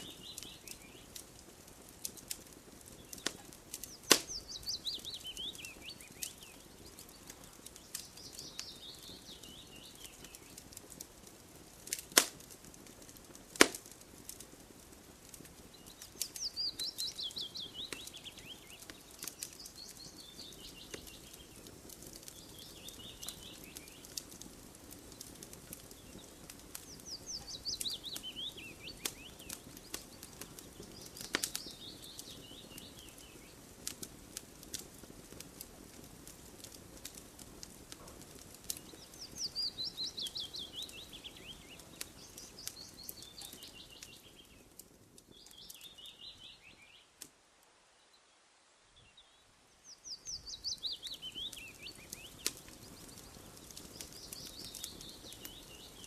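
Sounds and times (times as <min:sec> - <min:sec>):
songbird singing: 0:00.0 - 0:11.1, 0:15.2 - 0:34.1, 0:37.0 - 0:56.0
campfire crackling: 0:00.0 - 0:56.0.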